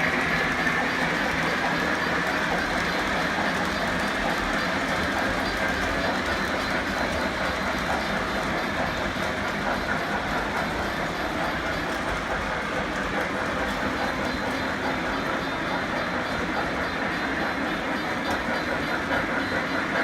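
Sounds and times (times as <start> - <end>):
model train rumbling: 0.0 - 20.0.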